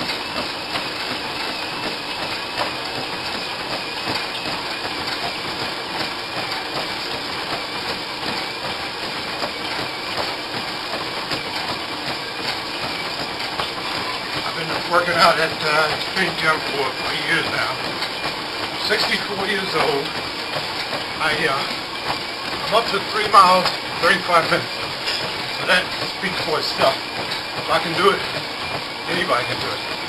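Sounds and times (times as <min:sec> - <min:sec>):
light footfalls on treadmill belt: 0:00.0 - 0:30.0
treadmill motor and belt whirring: 0:00.0 - 0:30.0.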